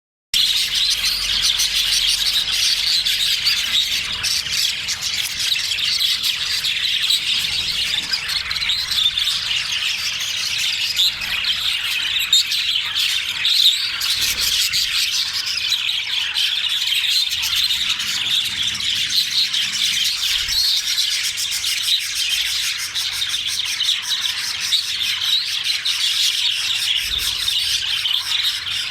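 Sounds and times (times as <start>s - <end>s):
budgerigars chattering and squawking: 0.4s - 28.9s.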